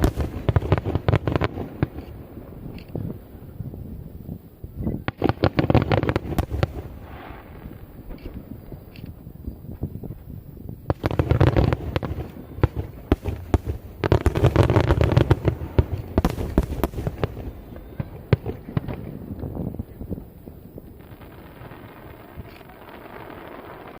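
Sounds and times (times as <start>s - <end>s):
fireworks bursting and crackling: 0.0s - 24.0s.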